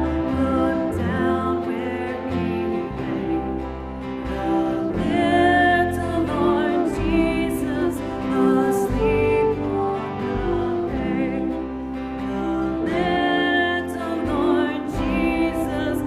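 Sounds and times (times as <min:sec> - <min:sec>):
person singing: 0:00.0 - 0:16.0
slow worship music: 0:00.0 - 0:16.0.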